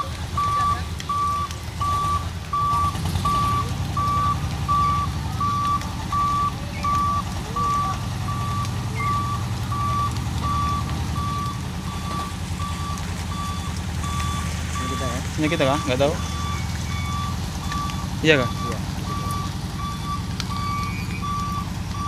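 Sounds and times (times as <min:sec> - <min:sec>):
car engine rumble: 0:00.0 - 0:22.0
reversing beeper beeps: 0:00.0 - 0:22.0.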